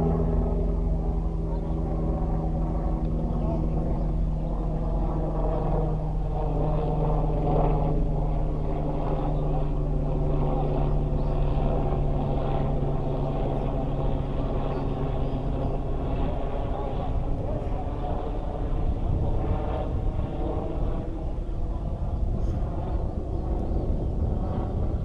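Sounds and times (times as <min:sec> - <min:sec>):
faint voices: 0:00.0 - 0:25.0
steady mechanical hum: 0:00.0 - 0:25.0.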